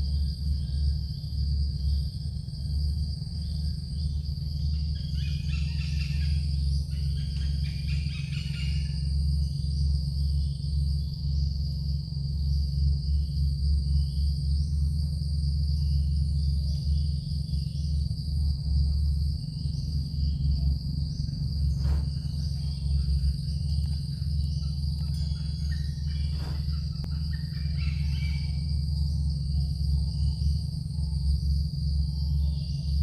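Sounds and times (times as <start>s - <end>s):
constant low hum: 0.0s - 33.0s
insects chirping: 0.0s - 33.0s.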